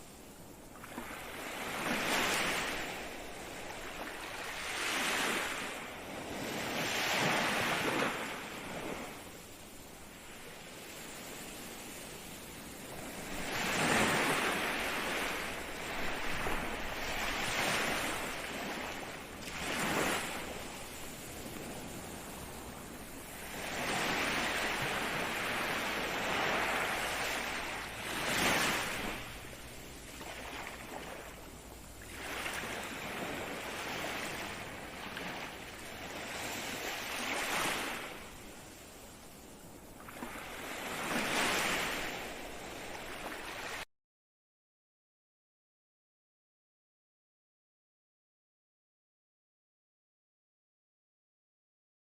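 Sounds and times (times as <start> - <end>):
ocean waves surging: 0.5 - 43.8.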